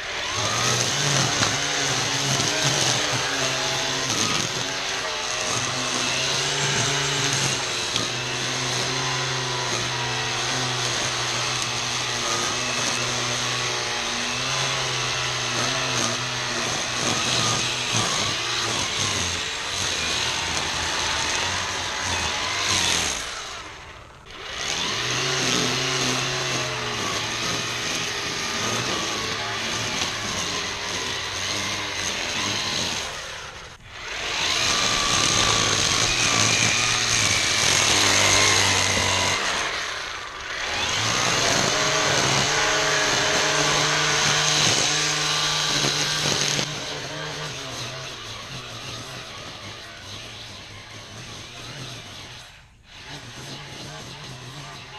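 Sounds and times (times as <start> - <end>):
string trimmer cutting weeds: 0.0 - 54.9.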